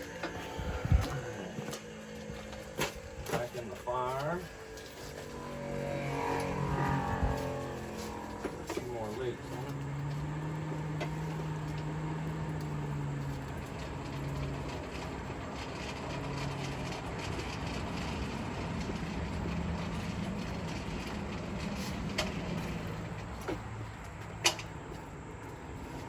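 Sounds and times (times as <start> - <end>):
forge rushing with low hum: 0.0 - 24.1.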